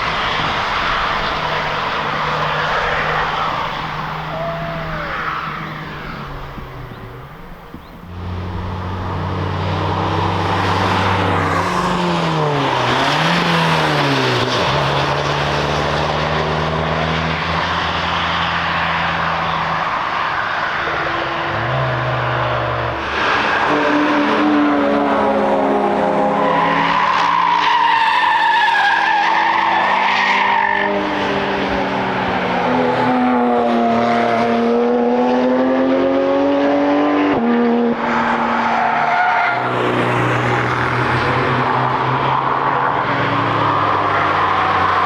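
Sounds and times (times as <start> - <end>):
car engine passing close: 0.0 - 27.6, 28.3 - 45.0
cars racing on a racetrack: 0.0 - 45.0.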